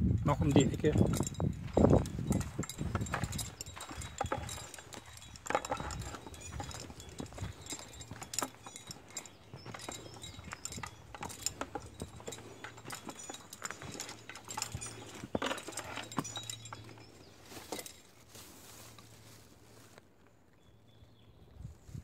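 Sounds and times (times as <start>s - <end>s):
light metallic clinking: 0.2s - 19.2s
footsteps on rocky sandy ground: 0.2s - 20.2s.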